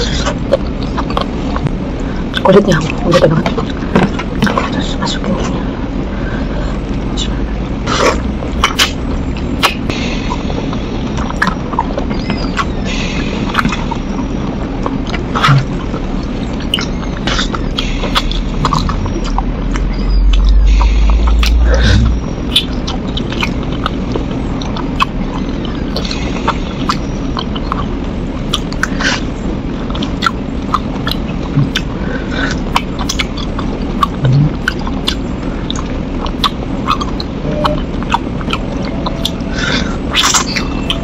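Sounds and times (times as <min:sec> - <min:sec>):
mouth smacking while chewing: 0:00.0 - 0:05.6, 0:06.6 - 0:12.8, 0:13.4 - 0:41.0
loud low rumble: 0:00.0 - 0:41.0.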